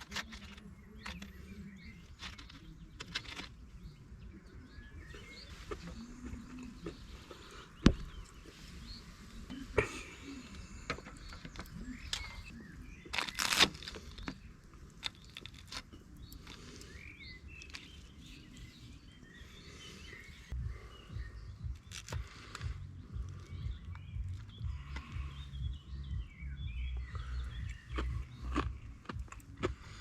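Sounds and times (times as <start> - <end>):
crunching rustle: 0.0 - 20.6, 21.7 - 25.4, 27.0 - 30.0
birds chirping: 0.0 - 30.0.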